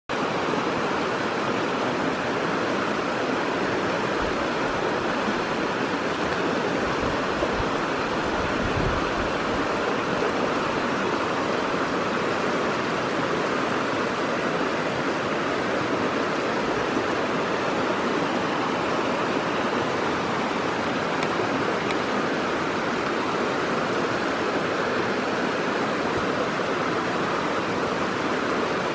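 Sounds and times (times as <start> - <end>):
stream rushing over rocks: 0.1 - 28.9.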